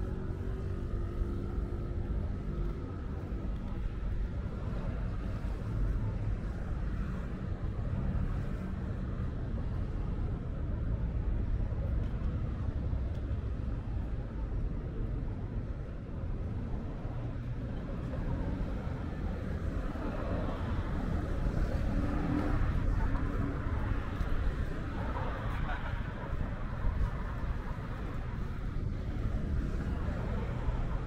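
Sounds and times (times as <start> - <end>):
traffic rumble of passing cars: 0.0 - 31.0.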